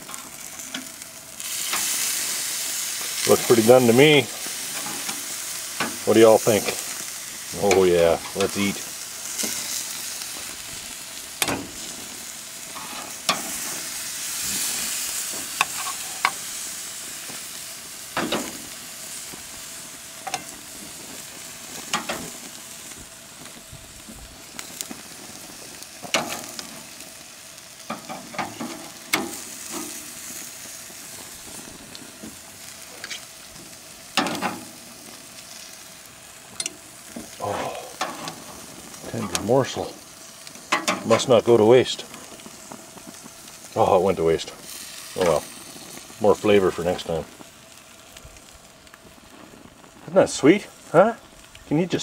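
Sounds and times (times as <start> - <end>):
meat sizzling on grill: 0.0 - 52.0.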